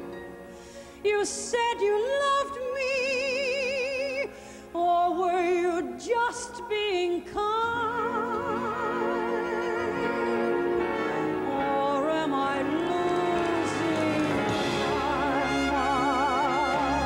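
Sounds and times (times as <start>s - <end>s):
woman singing soprano: 1.0s - 17.0s.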